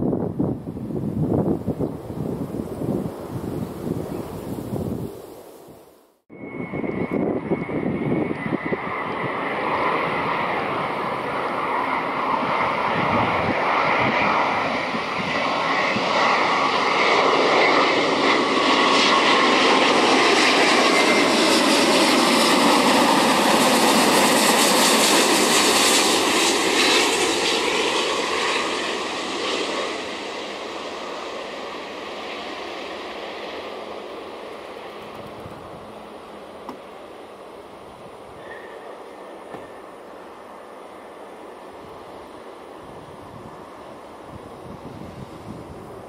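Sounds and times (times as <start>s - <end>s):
jet airliner passing low: 0.0s - 46.0s.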